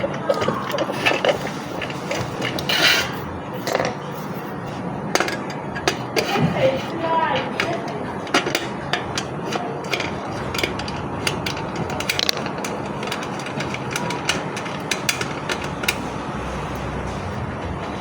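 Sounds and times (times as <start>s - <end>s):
parts and packaging clicking: 0.0s - 4.5s, 5.1s - 16.1s.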